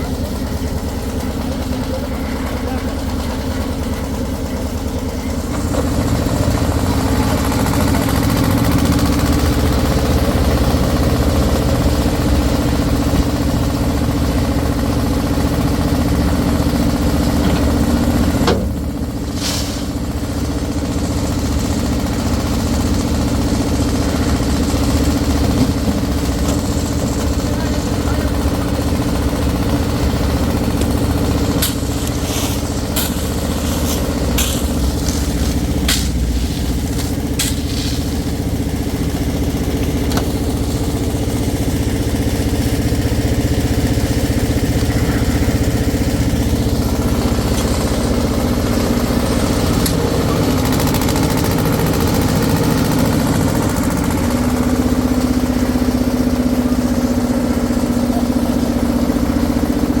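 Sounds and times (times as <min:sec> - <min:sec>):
concrete mixer engine running: 0:00.0 - 1:00.0.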